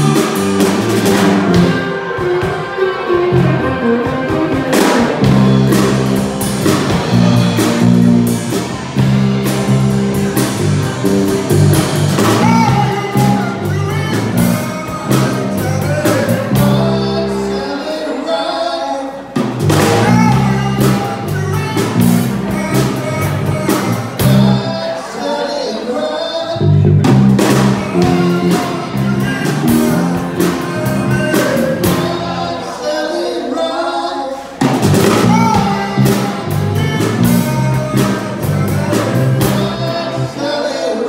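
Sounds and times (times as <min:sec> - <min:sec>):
walking bass line: 0:00.0 - 0:17.7, 0:19.4 - 0:25.0, 0:26.6 - 0:32.6, 0:34.6 - 0:40.4
drum kit: 0:00.0 - 0:17.8, 0:19.2 - 0:25.2, 0:26.6 - 0:32.8, 0:34.5 - 0:40.7
electric guitars: 0:00.0 - 0:18.3, 0:19.4 - 0:25.4, 0:26.5 - 0:32.7, 0:34.6 - 0:41.0
keyboard: 0:00.0 - 0:41.0.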